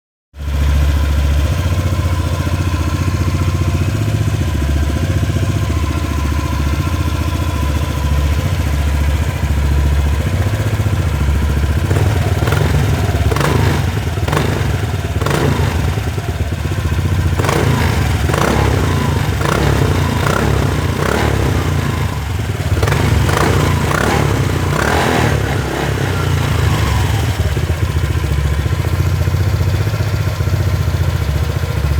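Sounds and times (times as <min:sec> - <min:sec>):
motorcycle engine exhaust note: 0:00.4 - 0:31.9.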